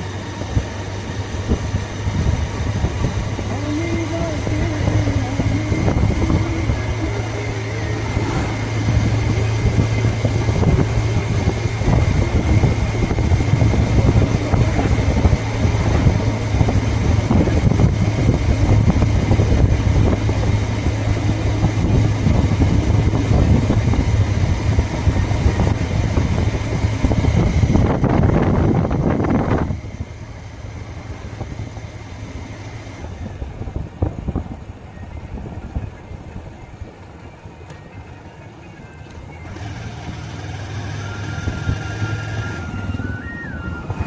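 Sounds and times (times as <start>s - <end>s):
rushing wind noise: 0.0s - 37.6s, 39.2s - 44.0s
motorcycle engine running: 0.0s - 44.0s.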